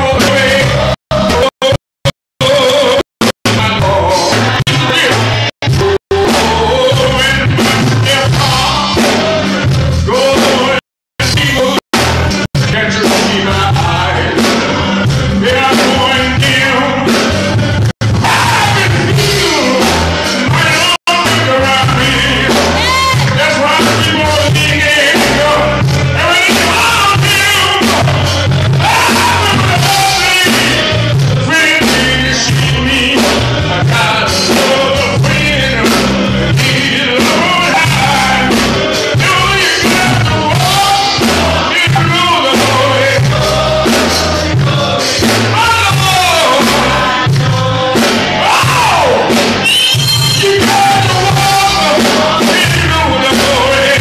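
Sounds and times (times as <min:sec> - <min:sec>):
live band with heavy bass: 0:00.0 - 0:54.0
man singing into microphone: 0:00.0 - 0:54.0.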